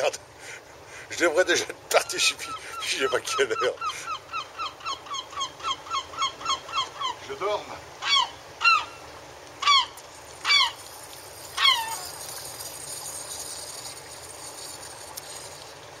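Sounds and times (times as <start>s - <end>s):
faint steady hiss: 0.0s - 16.0s
bird calling: 2.0s - 7.4s, 8.0s - 15.7s.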